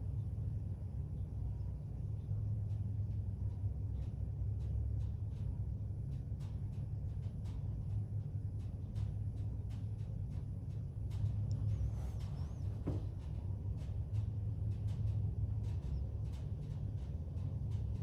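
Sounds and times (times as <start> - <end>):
faint light ticks: 2.1 - 18.0.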